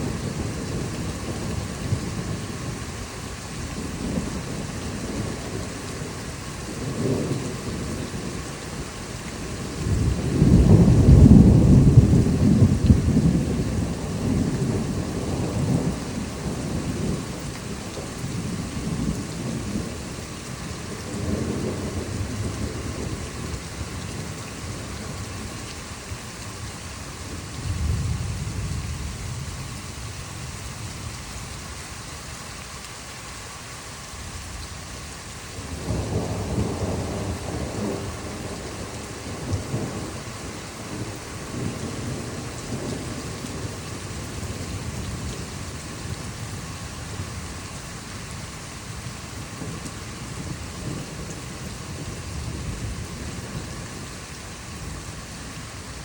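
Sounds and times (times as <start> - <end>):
thunder rumbling: 0.0 - 31.8, 34.0 - 56.0
steady rain: 0.0 - 56.0.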